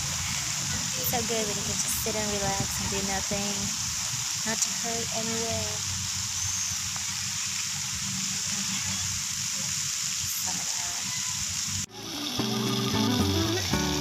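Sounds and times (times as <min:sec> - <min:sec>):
fountain water jets spraying: 0:00.0 - 0:14.0.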